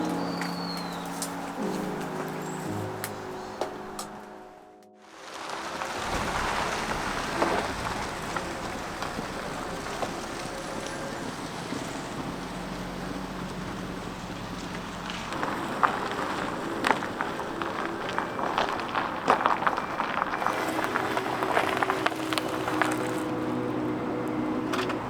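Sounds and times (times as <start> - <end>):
blizzard wind blowing: 0.0 - 25.0.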